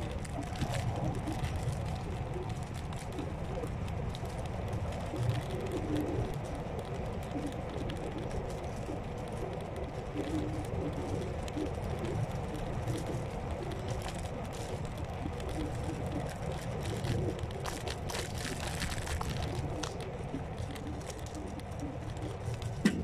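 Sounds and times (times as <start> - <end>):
scooter tyres rumbling: 0.0 - 23.0
small ticks: 0.0 - 23.0.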